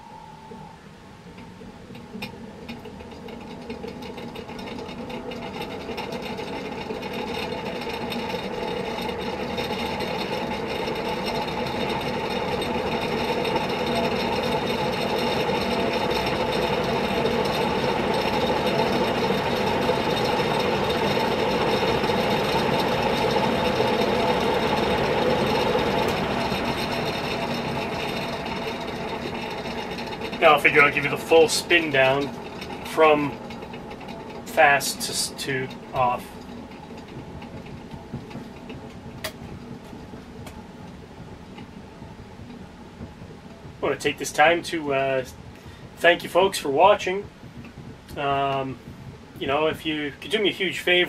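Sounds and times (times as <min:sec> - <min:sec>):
ceiling fan motor hum: 0:00.0 - 0:51.0
fan blade whoosh: 0:00.0 - 0:51.0.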